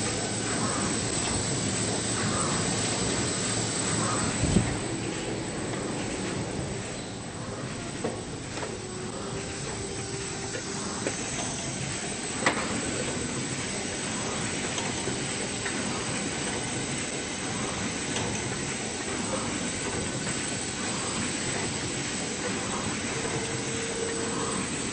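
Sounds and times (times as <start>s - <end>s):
machine hiss and hum: 0.0s - 24.9s.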